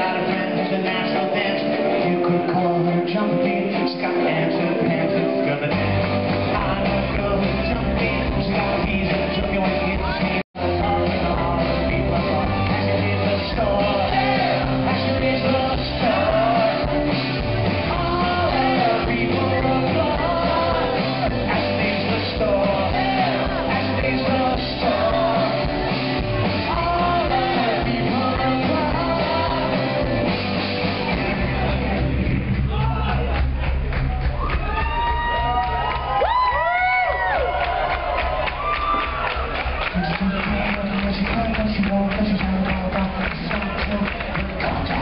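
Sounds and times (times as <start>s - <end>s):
man singing: 0.0s - 33.3s, 39.9s - 45.0s
live rock band playing: 0.0s - 45.0s.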